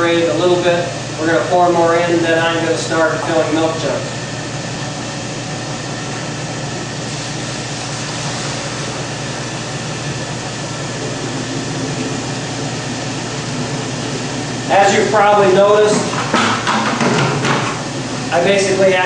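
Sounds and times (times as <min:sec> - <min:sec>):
cream separator whirring hum: 0:00.0 - 0:19.0.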